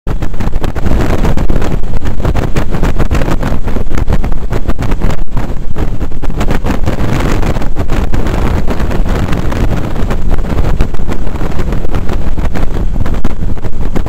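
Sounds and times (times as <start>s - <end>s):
motorcycle engine rumble: 0.1s - 14.0s
wind buffeting microphone: 0.1s - 14.0s.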